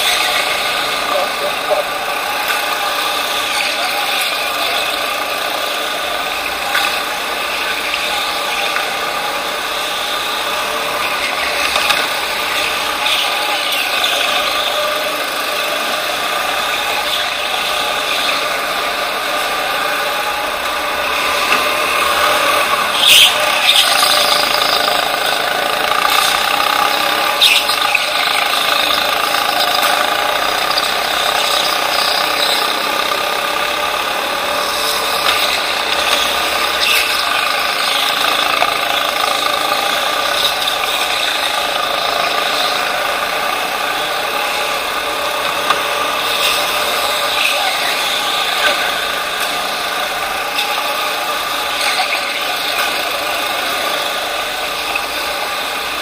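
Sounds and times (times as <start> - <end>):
chassis rattling: 0.0 - 56.0
go-kart motor running: 0.0 - 56.0
sharp clacks: 0.0 - 56.0.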